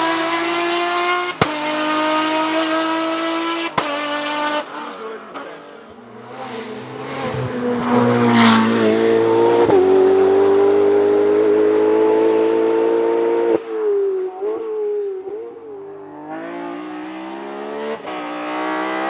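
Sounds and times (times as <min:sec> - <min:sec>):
race car accelerating: 0:00.0 - 0:19.0.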